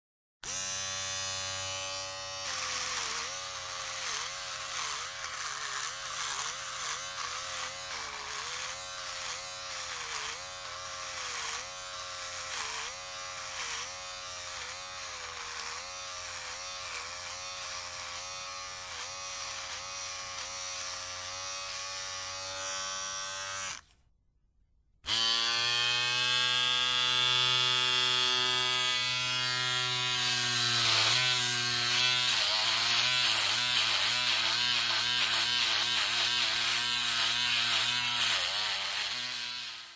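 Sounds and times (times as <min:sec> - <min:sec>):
electric shaver buzzing: 0:00.4 - 0:24.0, 0:25.0 - 0:39.9.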